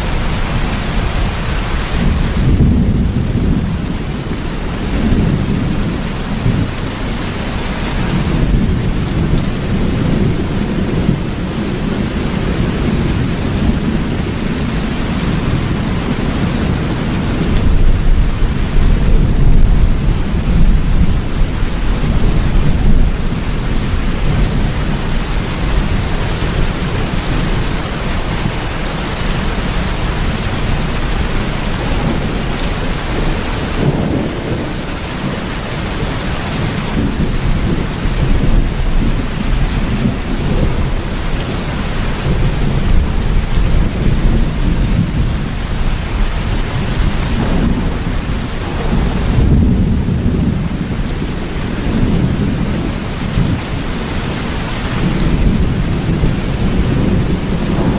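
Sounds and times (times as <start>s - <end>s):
low thunder rumble: 0.0s - 57.9s
steady rain: 0.0s - 57.9s.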